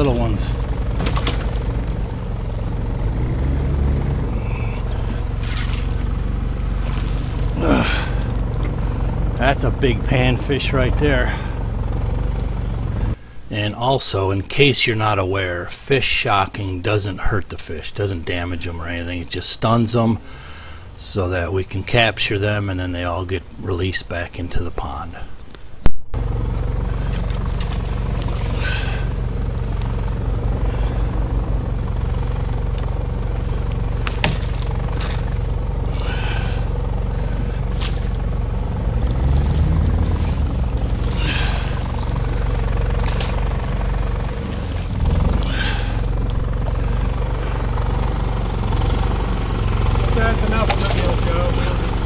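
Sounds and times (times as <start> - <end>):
generator engine drone: 0.0 - 52.0.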